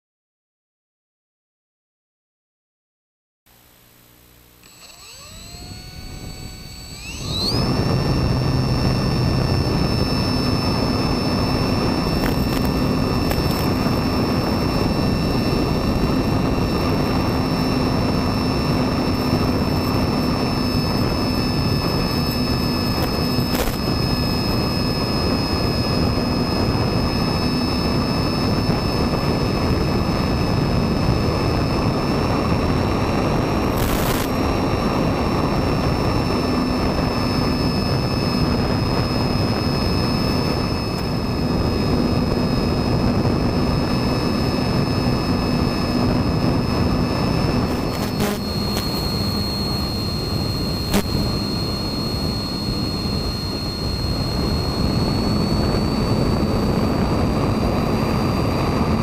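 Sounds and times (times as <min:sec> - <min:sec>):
model plane motor whine: 0:03.5 - 0:59.0.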